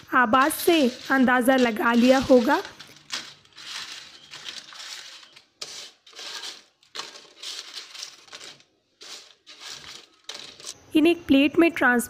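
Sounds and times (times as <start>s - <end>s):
chips crackling and crunching: 0.0s - 10.8s
paper crinkling: 0.0s - 10.8s.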